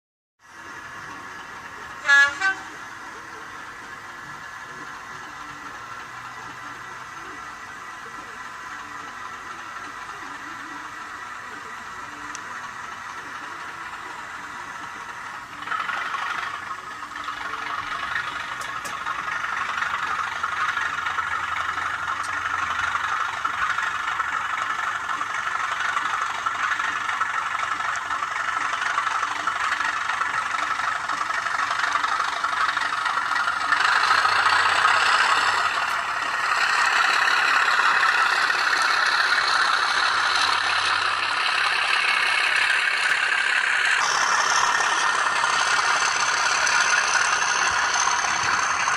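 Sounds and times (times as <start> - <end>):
diesel locomotive engine sound from small speaker: 0.4 - 48.9.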